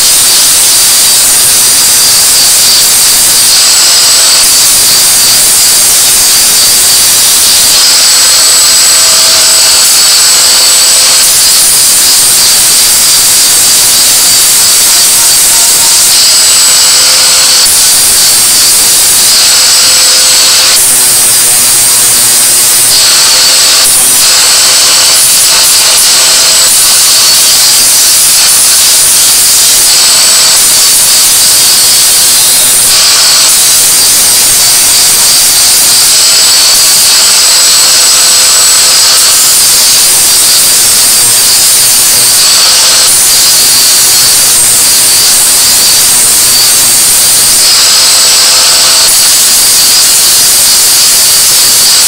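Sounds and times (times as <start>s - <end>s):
angle grinder grinding: 0.0s - 52.0s.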